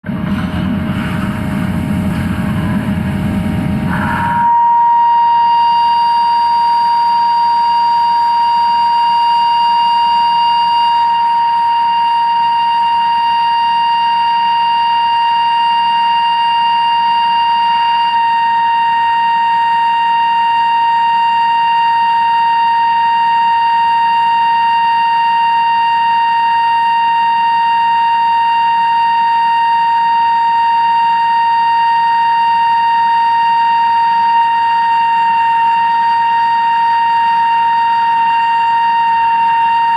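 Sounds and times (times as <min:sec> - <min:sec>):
high-pitched drilling whine: 0:00.1 - 0:39.9.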